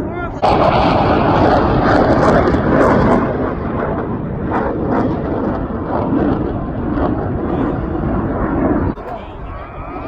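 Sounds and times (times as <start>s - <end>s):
jet aircraft roaring past: 0.3s - 10.0s.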